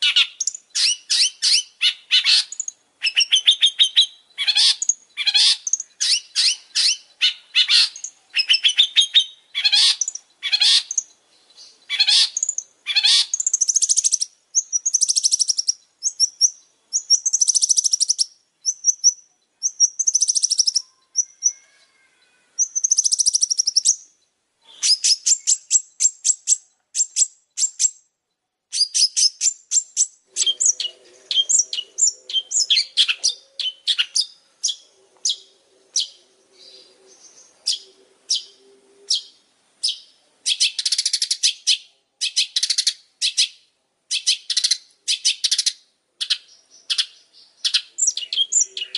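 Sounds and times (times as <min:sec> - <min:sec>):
bird chattering song: 0:00.0 - 0:21.8, 0:22.6 - 0:48.9.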